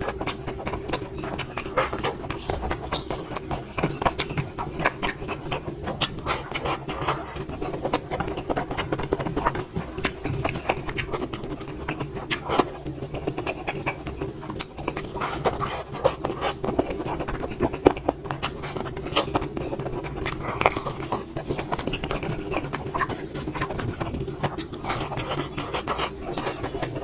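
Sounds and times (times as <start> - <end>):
chewing and mouth smacks: 0.0 - 27.0
steady low hum: 0.0 - 27.0.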